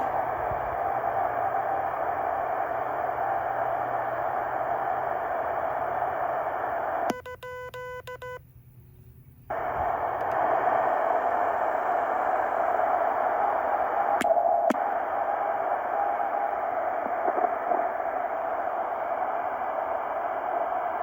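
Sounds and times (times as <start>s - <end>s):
radio band noise hiss: 0.0s - 7.1s, 9.5s - 21.0s
radio click: 0.0s - 7.4s, 9.5s - 21.0s.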